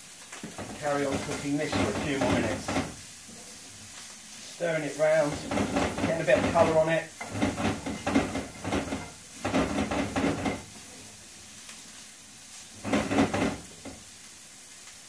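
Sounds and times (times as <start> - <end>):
stirring and scraping in pan: 0.0 - 14.3
bacon sizzling in a frying pan: 0.0 - 15.0.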